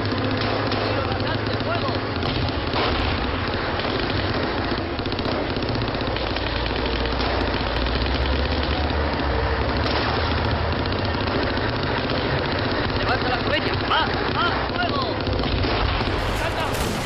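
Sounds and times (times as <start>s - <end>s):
small-arms gunfire crackle: 0.0s - 17.0s.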